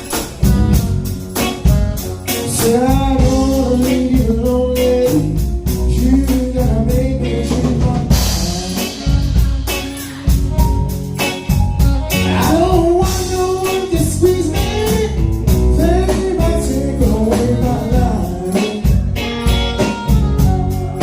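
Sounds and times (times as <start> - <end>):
drums with steady beat: 0.0 - 21.0
guitar: 0.0 - 21.0
person singing: 2.3 - 11.3, 12.0 - 21.0.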